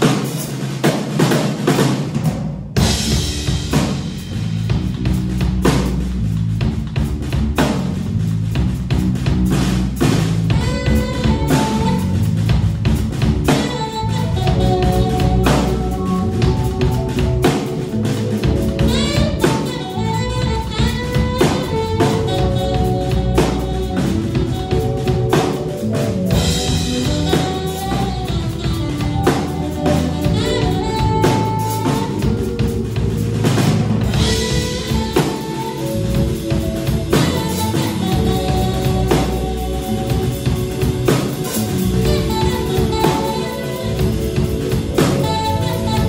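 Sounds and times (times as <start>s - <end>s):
drum and cymbal hits: 0.0s - 46.0s
electric bass: 0.0s - 46.0s
electric keyboard: 2.8s - 46.0s
saxophone: 2.8s - 46.0s.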